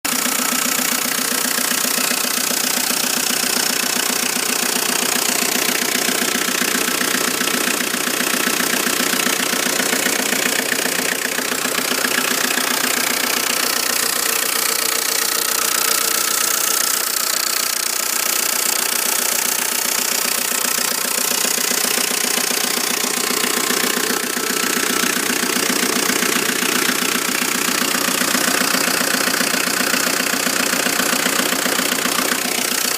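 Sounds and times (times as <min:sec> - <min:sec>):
diesel engine running: 0:00.0 - 0:32.9
engine knock rapping: 0:00.0 - 0:32.9.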